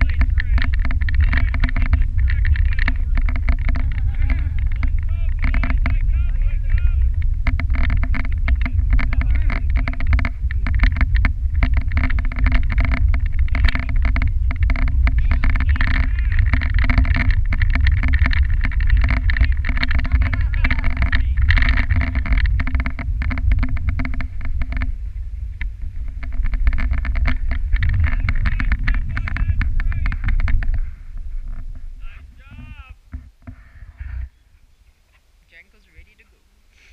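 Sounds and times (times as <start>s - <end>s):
sled runners rattling on snow: 0.0s - 34.3s
wind buffeting microphone: 0.0s - 35.1s
steady rumble: 0.0s - 36.7s.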